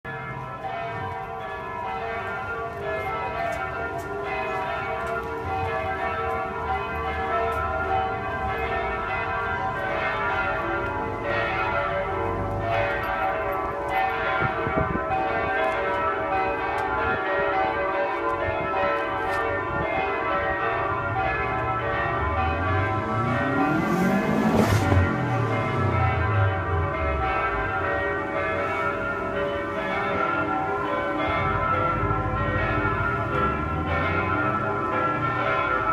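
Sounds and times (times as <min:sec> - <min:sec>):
church bells ringing: 0:00.1 - 0:35.9.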